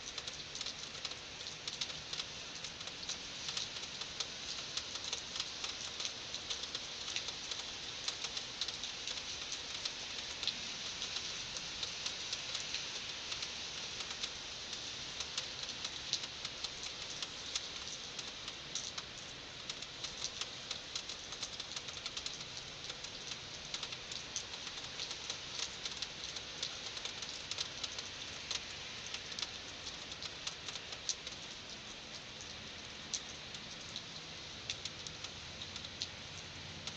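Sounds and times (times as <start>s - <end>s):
raindrops pattering on a surface: 0.0s - 36.9s
heavy rain falling: 0.1s - 36.9s.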